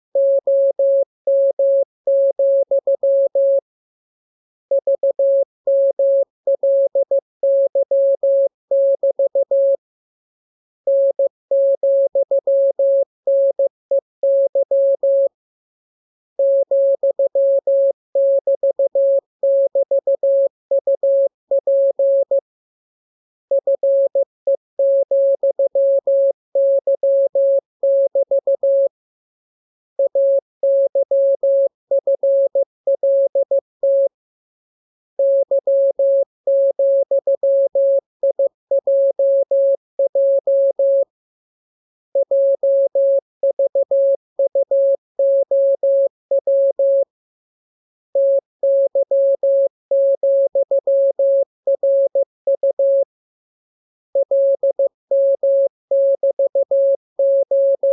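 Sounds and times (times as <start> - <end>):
morse code beeps: 0.2 - 3.6, 4.7 - 9.8, 10.9 - 15.3, 16.4 - 22.4, 23.5 - 24.2, 24.8 - 28.9, 30.0 - 34.1, 35.2 - 41.1, 42.2 - 47.0, 48.2 - 53.0, 54.2 - 57.9.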